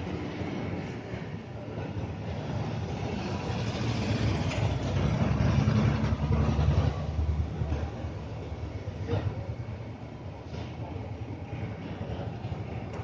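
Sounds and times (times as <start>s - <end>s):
passing vehicle rumble: 0.0s - 10.4s.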